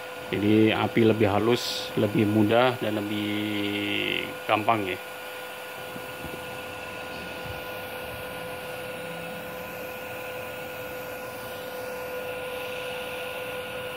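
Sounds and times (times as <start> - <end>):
welding machine fan hiss: 0.0 - 13.9
welding machine hum: 0.0 - 13.9.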